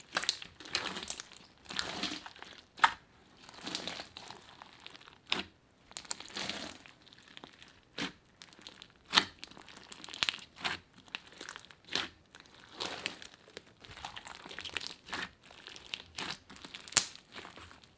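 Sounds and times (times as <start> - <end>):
slime squishing with pops: 0.0 - 17.9.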